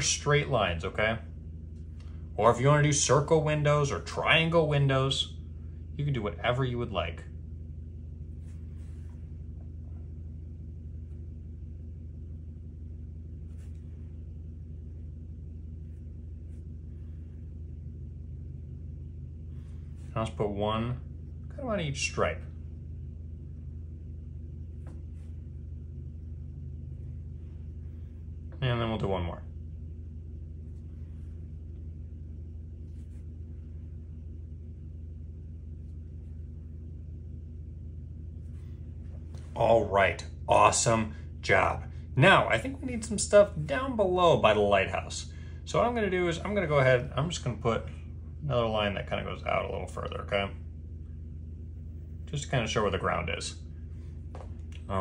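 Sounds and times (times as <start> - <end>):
low room hum: 0.0 - 55.0.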